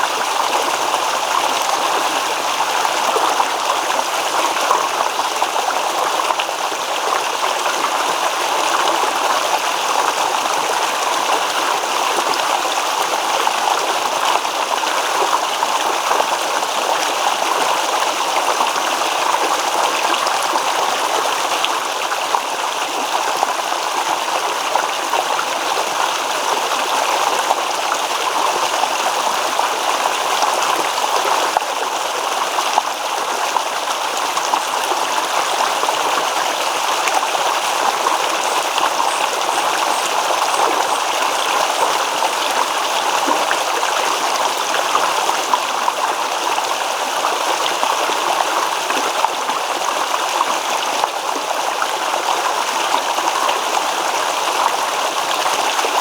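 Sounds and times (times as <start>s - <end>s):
stream water rippling over stones: 0.0s - 56.0s.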